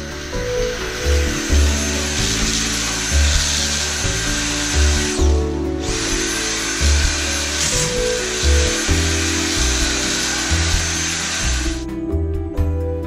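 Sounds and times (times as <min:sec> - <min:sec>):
cordless drill driving screws: 0:00.0 - 0:11.8.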